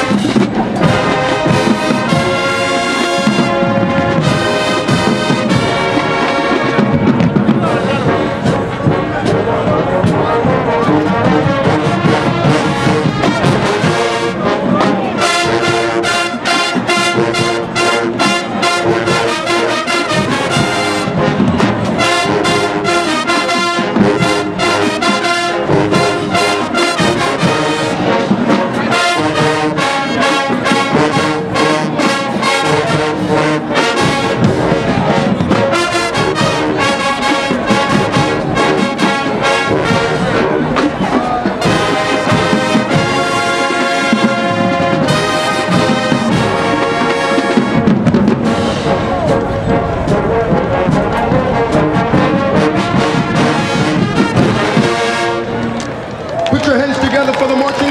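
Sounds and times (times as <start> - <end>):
drumline steady beat: 0.0 - 57.9
loud brass: 0.0 - 57.9
marching band playing: 0.0 - 57.9.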